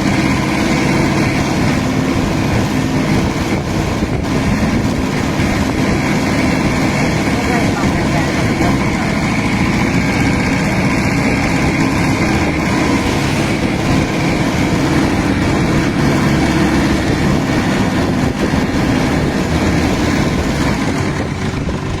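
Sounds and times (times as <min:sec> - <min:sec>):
boat motor running: 0:00.0 - 0:22.0.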